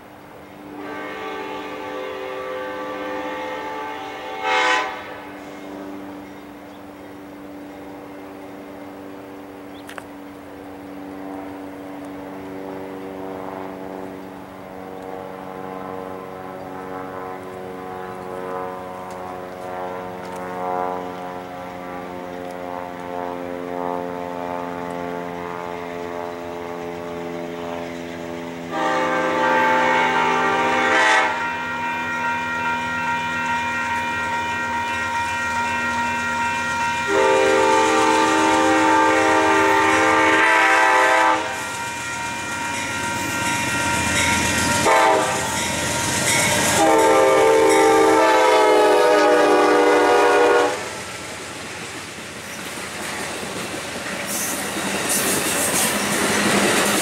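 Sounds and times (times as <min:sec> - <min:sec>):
locomotive air horn blasts: 0:00.5 - 0:08.1, 0:12.2 - 0:51.1.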